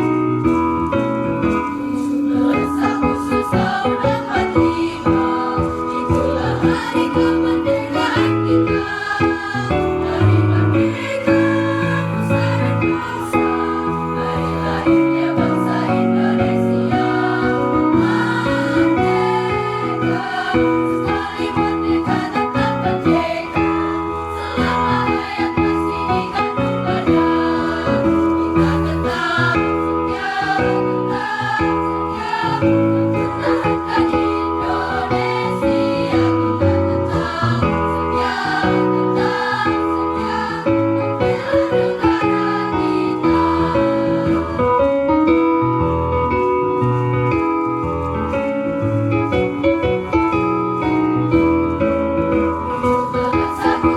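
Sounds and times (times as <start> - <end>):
instrumental accompaniment: 0.0 - 53.9
choir singing sustained chords: 0.9 - 45.9, 52.7 - 53.9.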